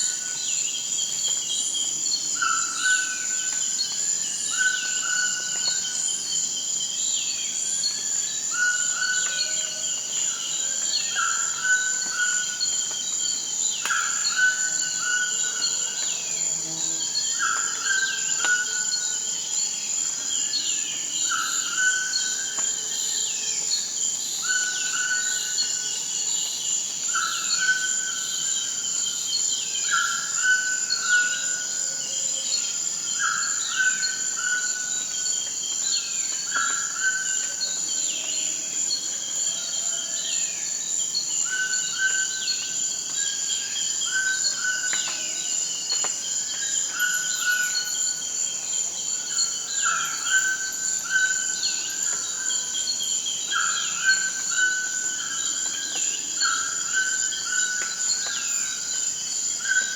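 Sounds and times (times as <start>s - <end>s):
insect drone: 0.0s - 59.9s.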